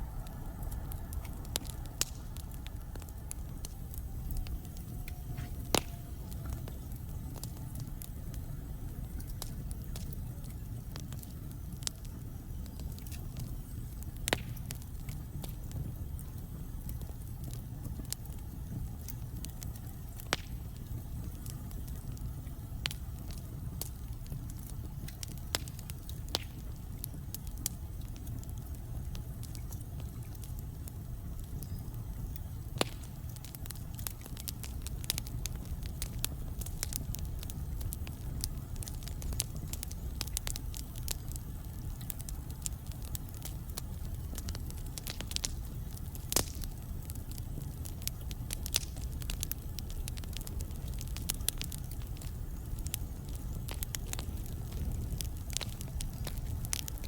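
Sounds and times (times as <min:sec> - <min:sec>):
fire rumbling: 0:00.0 - 0:57.0
logs crackling and popping: 0:00.0 - 0:57.0.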